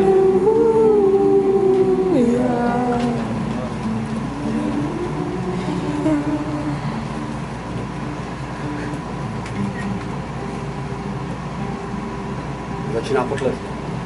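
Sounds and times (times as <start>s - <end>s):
acoustic guitars playing quietly: 0.0s - 14.0s.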